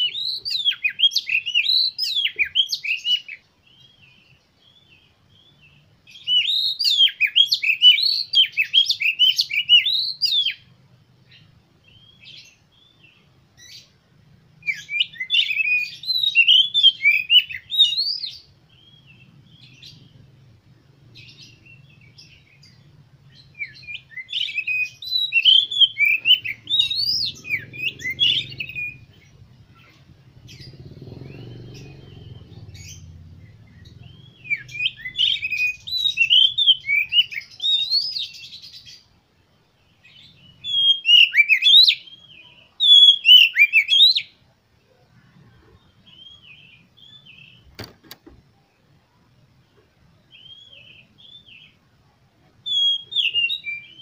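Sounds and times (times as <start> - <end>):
bird singing rapid varied song: 0.0 - 54.0.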